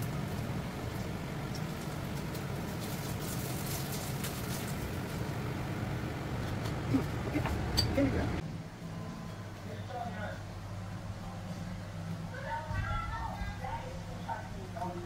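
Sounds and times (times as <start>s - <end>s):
gas burner rumble: 0.0s - 15.0s.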